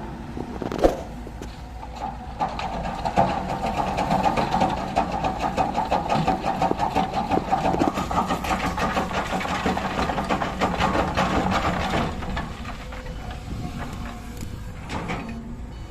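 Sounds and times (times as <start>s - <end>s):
diesel engine running: 0.0s - 15.9s
rattling clatter: 0.5s - 15.4s.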